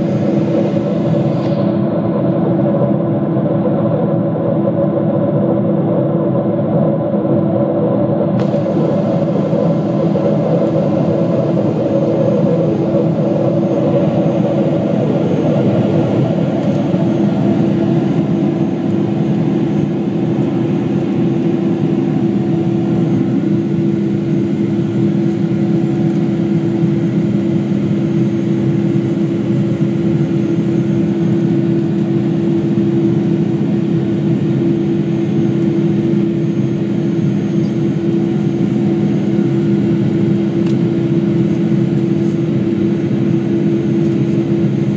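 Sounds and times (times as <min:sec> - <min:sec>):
jet engine cabin drone: 0:00.0 - 0:44.9.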